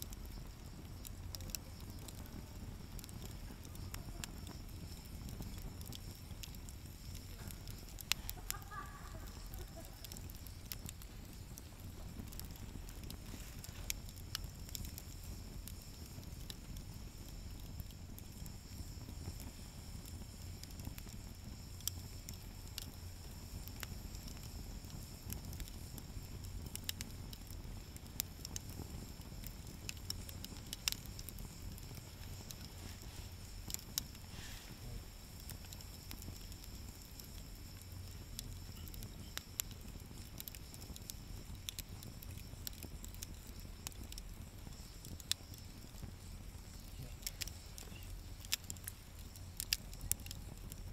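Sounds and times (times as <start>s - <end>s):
low steady fire rumble: 0.0s - 50.9s
wood fire crackling and popping: 0.0s - 50.9s.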